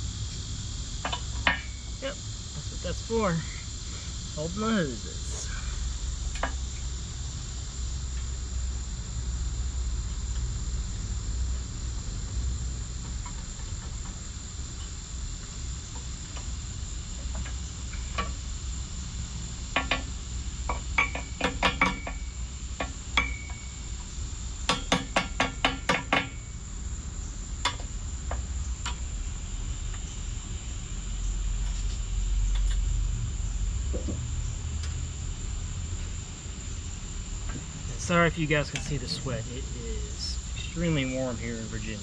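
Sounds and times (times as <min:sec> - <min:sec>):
high-pitched insect drone: 0:00.0 - 0:42.0.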